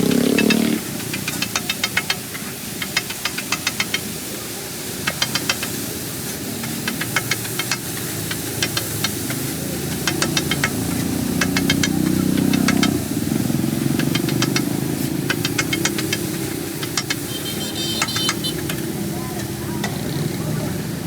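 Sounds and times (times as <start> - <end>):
food sizzling on griddle: 0.0 - 21.0
metal spatula clicking on griddle: 0.1 - 4.1, 5.0 - 5.8, 6.6 - 13.0, 14.0 - 20.0.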